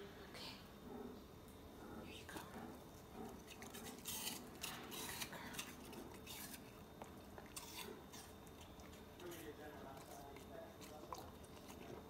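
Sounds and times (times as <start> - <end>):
dog crunching apple: 2.3 - 12.0.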